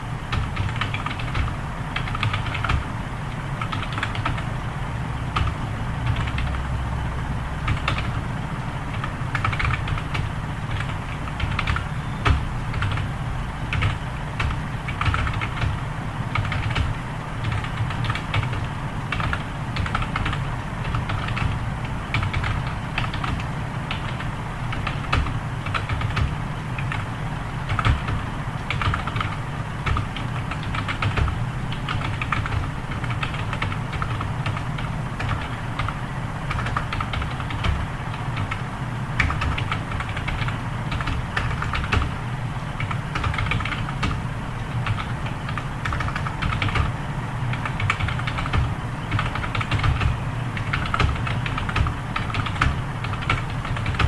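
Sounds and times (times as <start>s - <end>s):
fast typing on keyboard: 0.3s - 6.7s, 7.6s - 54.0s.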